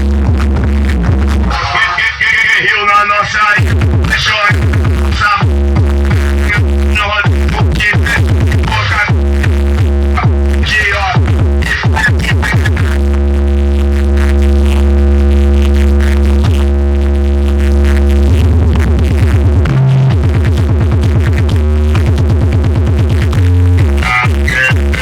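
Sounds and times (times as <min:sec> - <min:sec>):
electronic dance music with deep bass: 0:00.0 - 0:25.0.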